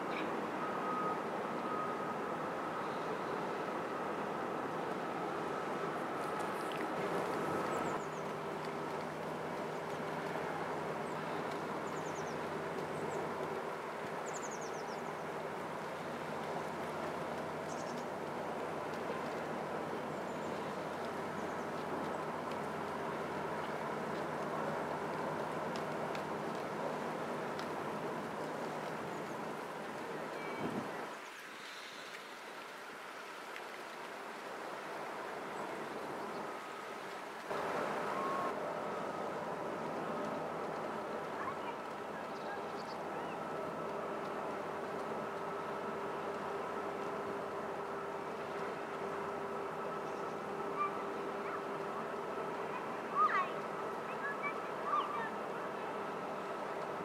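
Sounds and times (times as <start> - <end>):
ship engines humming: 0.0 - 31.1, 34.1 - 57.0
river water: 0.0 - 57.0
wind: 0.0 - 57.0.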